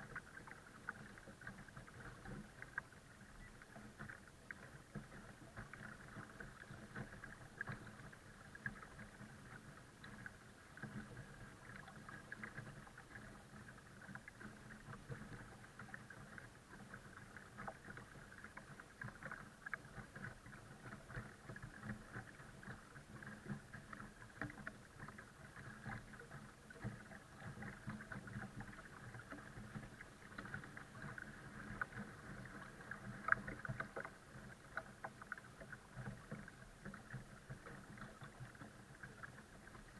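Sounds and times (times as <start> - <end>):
water lapping against kayak hull: 0.0 - 39.9.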